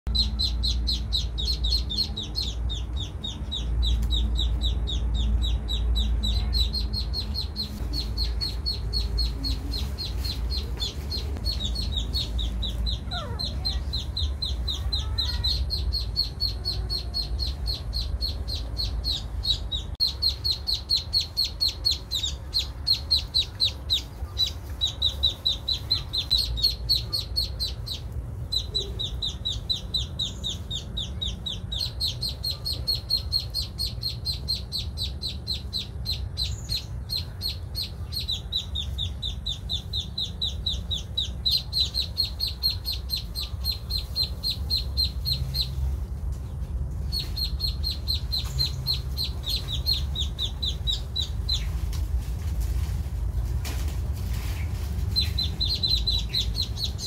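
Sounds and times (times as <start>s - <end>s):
ducklings peeping: 0.1s - 52.6s, 54.2s - 57.0s
steady low rumble: 0.1s - 57.0s.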